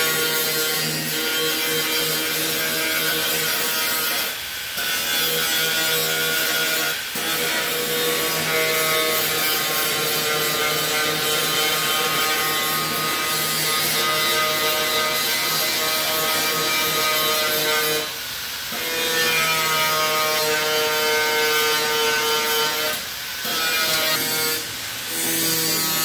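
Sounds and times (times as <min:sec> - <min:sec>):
angle grinder grinding steel: 0:00.0 - 0:26.0.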